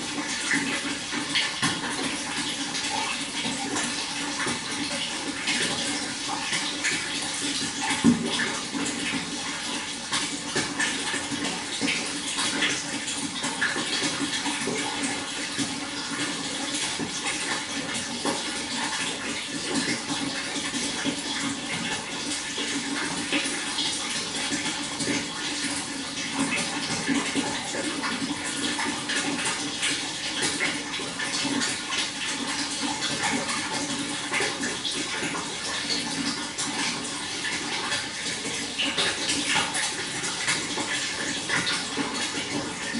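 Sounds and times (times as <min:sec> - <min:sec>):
water splashing and trickling: 0:00.0 - 0:42.9.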